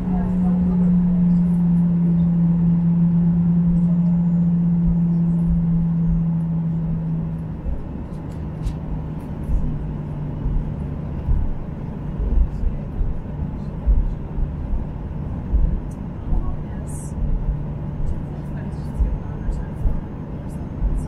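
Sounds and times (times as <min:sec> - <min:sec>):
aircraft engine hum: 0:00.0 - 0:21.0.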